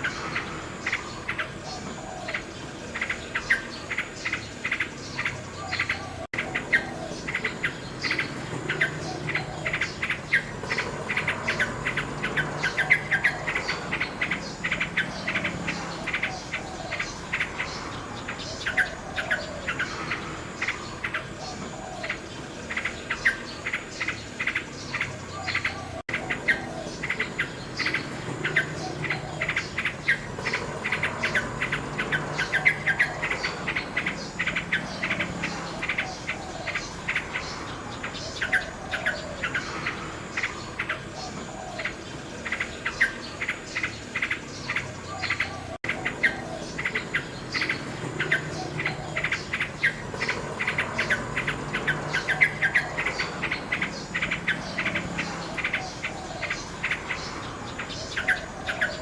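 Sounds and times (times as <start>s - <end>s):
nightingale singing: 0.0s - 59.0s.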